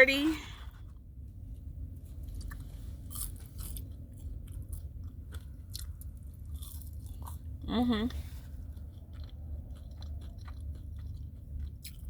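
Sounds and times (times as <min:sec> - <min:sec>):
steady low hum: 0:00.0 - 0:12.0
person chewing: 0:00.7 - 0:07.7, 0:08.4 - 0:12.0.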